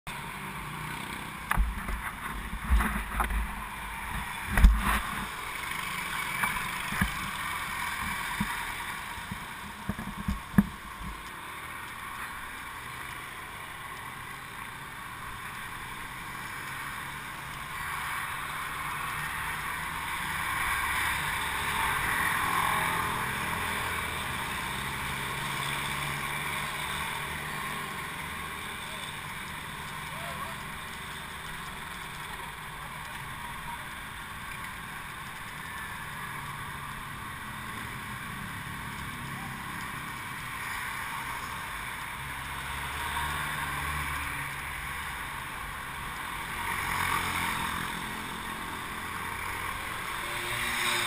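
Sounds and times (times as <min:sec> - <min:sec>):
street traffic: 0:00.1 - 0:51.0.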